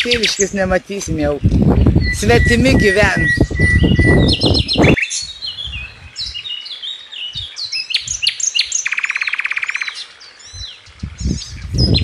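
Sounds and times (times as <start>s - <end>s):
birds chirping and whistling: 0.0s - 12.0s
bird trill: 1.9s - 12.0s.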